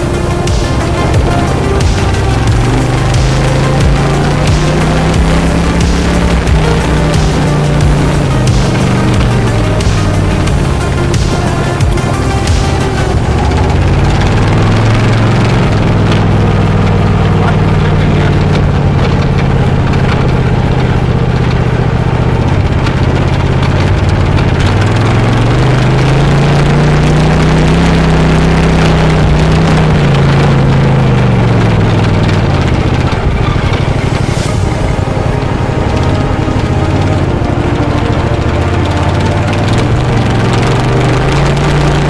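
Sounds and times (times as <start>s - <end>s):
lawn mower engine running: 0.0s - 42.0s.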